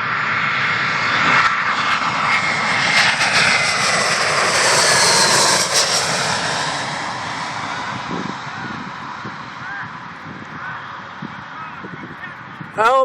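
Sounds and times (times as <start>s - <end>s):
jet engine roar: 0.0s - 12.8s.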